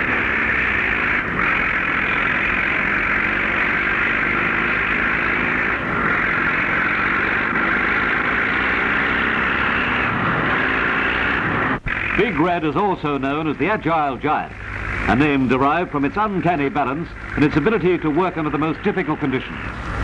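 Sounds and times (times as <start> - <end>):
bulldozer diesel engine running: 0.0 - 20.0
film soundtrack hiss: 0.0 - 20.0.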